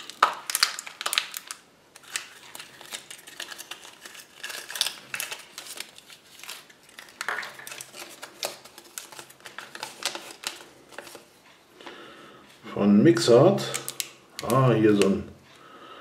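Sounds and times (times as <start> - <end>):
paper and plastic wrapper crinkling: 0.0 - 11.4, 13.5 - 15.2.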